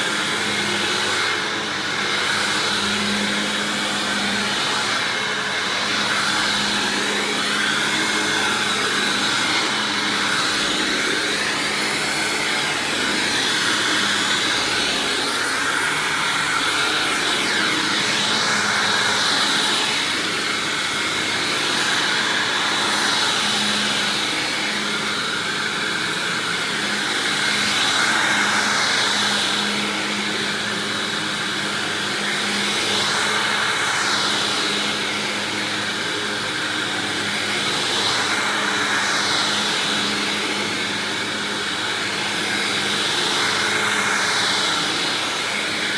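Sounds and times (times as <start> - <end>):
upright vacuum cleaner running: 0.0 - 45.9.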